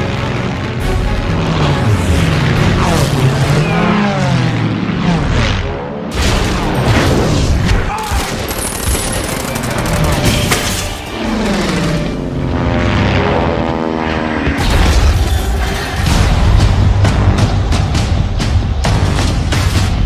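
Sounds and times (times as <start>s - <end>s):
soundtrack music: 0.0s - 20.0s.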